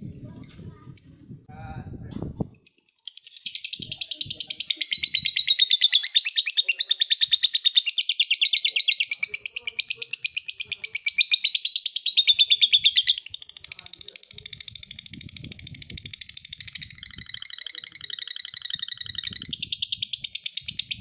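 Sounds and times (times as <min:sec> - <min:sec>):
bird chattering trill: 0:02.4 - 0:21.0.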